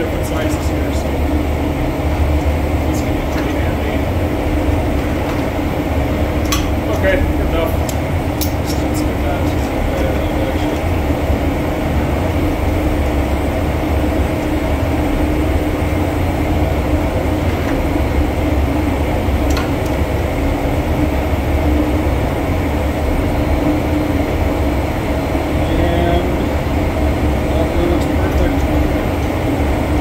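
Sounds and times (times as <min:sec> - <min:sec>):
machinery drone: 0:00.0 - 0:30.0.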